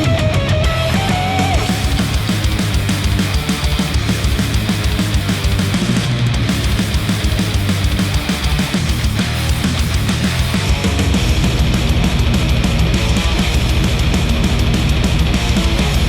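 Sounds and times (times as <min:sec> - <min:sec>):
heavy rock music: 0:00.0 - 0:16.0.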